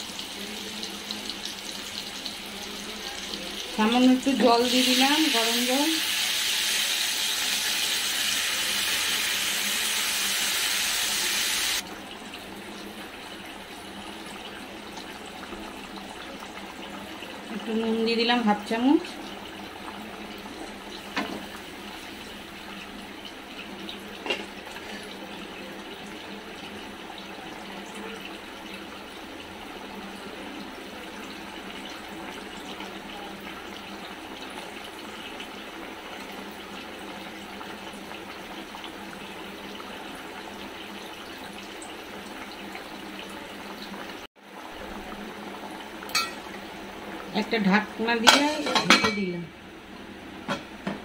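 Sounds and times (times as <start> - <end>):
gravy bubbling in a pan: 0.0 - 51.0.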